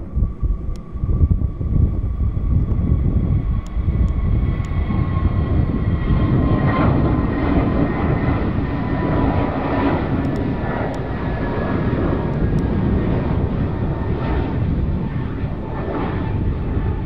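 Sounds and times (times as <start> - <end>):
jet engine rumble: 0.0 - 17.0
jet engine whine: 0.0 - 17.0.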